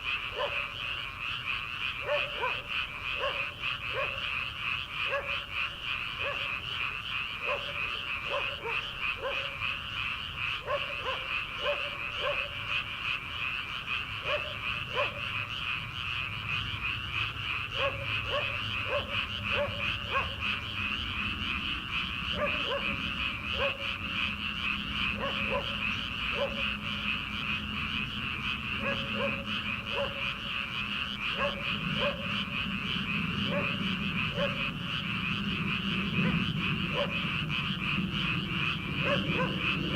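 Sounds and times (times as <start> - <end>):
high-pitched frog chorus: 0.0 - 39.9
low-pitched frog croaks: 0.0 - 39.9.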